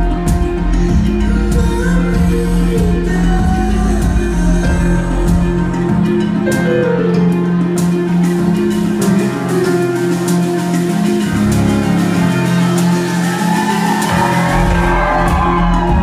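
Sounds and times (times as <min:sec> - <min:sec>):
live band playing: 0:00.0 - 0:16.0
steady bass line: 0:00.0 - 0:16.0.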